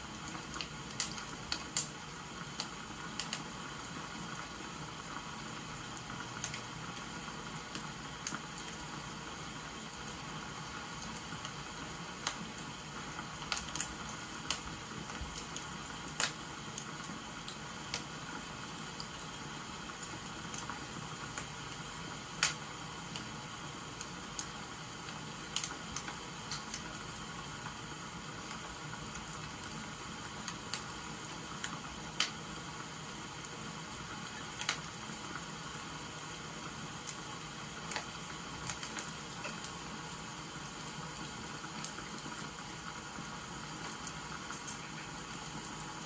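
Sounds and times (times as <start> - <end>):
wood fire crackling and popping: 0.0 - 45.9
rain hissing: 0.0 - 46.0.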